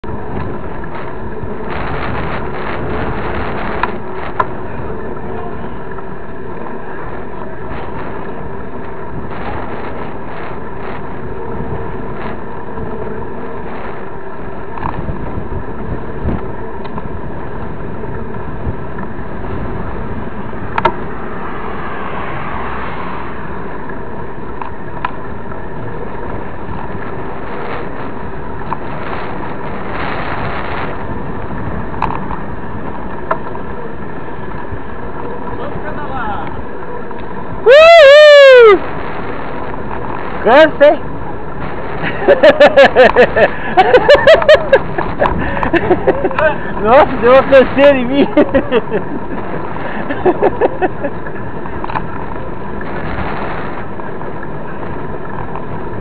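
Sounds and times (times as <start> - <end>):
mountain bike riding noise: 0.0 - 56.0.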